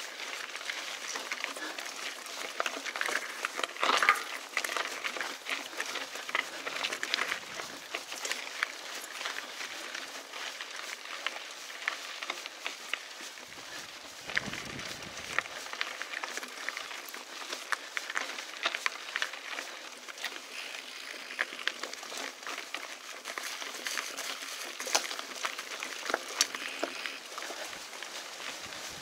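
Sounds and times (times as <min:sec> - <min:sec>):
bike clicking and rattling: 0:00.0 - 0:29.0
tyres crackling on gravel: 0:00.0 - 0:29.0.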